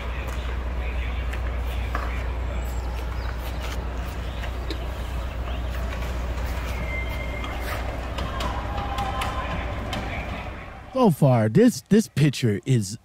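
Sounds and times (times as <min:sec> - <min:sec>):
traffic noise: 0:00.0 - 0:13.0
truck engine rumbling: 0:00.0 - 0:13.0.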